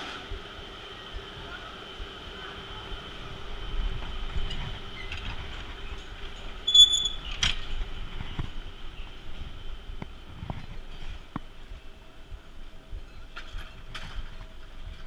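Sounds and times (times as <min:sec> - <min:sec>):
sled rumbling on metal rails: 0:00.0 - 0:15.0.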